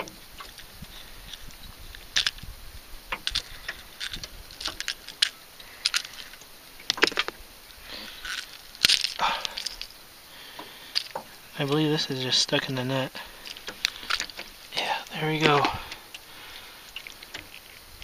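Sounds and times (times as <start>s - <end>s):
rustles: 0.0s - 18.0s.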